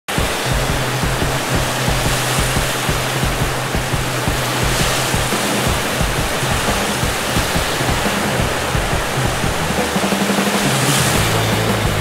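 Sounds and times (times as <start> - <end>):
background music low notes: 0.1 - 12.0
waves breaking on shore: 0.1 - 12.0
wind: 0.1 - 12.0.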